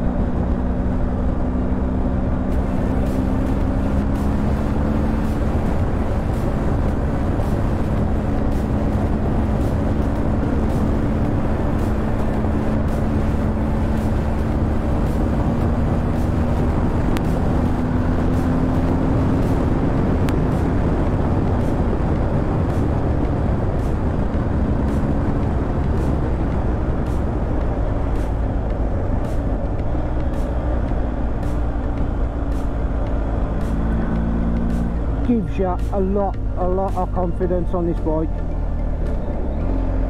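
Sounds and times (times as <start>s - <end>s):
motorcycle engine running: 0.0s - 37.2s
wind and road noise: 0.0s - 40.0s.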